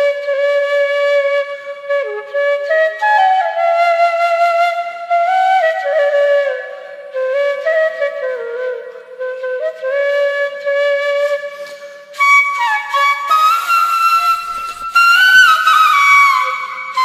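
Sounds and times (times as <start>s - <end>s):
flute playing a melody: 0.0s - 17.0s.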